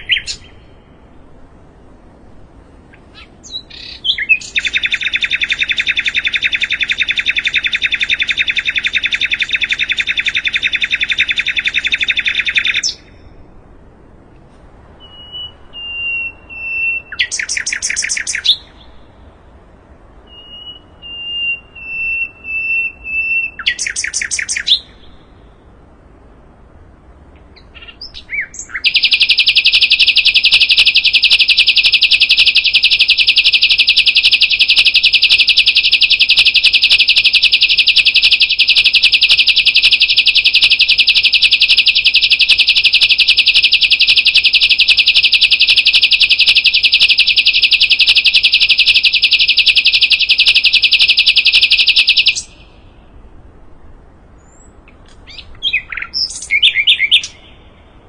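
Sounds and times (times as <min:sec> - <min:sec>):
bird singing rapid trills: 0:00.0 - 0:01.9, 0:02.8 - 0:13.4, 0:15.0 - 0:19.3, 0:20.2 - 0:25.8, 0:27.4 - 0:53.2, 0:54.4 - 0:58.0.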